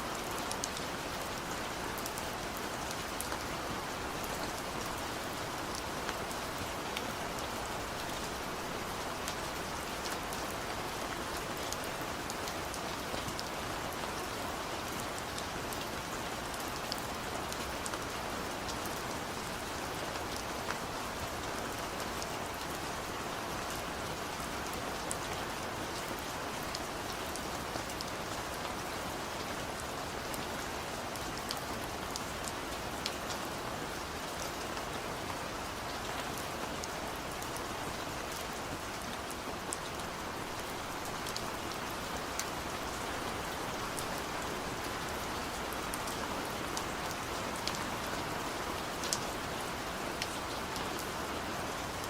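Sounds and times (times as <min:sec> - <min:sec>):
steady rain hiss: 0:00.0 - 0:52.0
raindrops ticking on a surface: 0:00.1 - 0:52.0.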